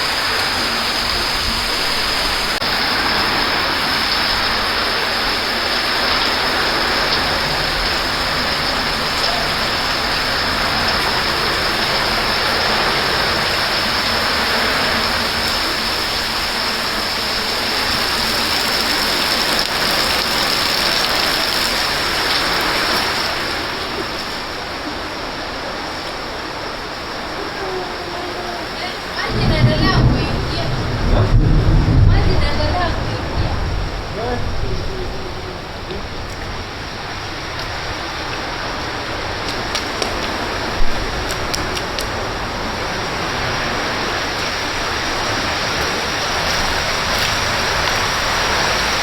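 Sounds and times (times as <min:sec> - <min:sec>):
heavy rain: 0:00.0 - 0:49.0
running floodwater: 0:00.0 - 0:49.0.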